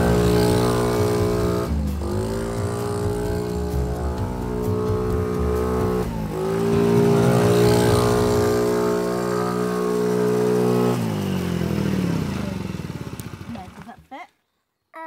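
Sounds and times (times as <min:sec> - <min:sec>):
quad bike engine revving: 0:00.0 - 0:14.2.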